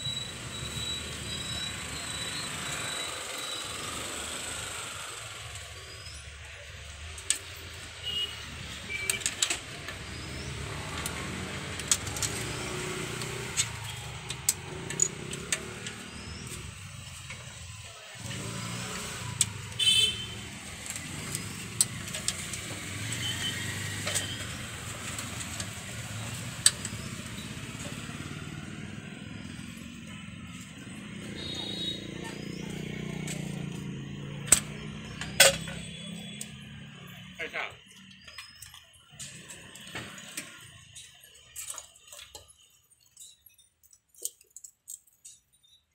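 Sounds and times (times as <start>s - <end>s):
traffic rumble: 0.0s - 43.4s.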